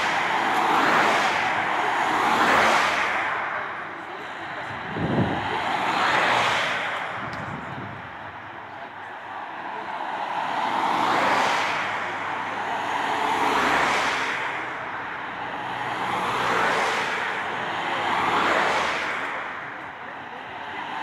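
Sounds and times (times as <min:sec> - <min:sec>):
cars passing by: 0:00.0 - 0:21.0.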